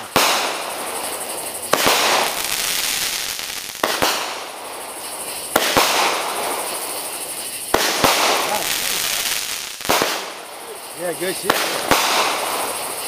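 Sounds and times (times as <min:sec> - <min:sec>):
firework hiss: 0:00.0 - 0:13.0
sharp firework bangs: 0:00.0 - 0:13.0.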